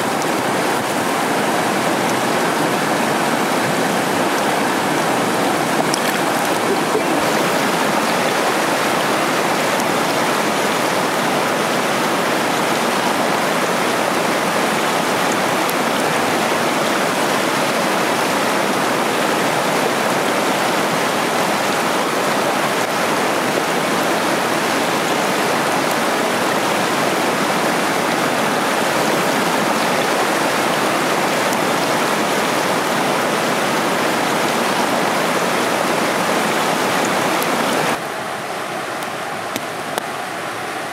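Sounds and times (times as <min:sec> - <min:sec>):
stream splashing over rocks: 0:00.0 - 0:38.0.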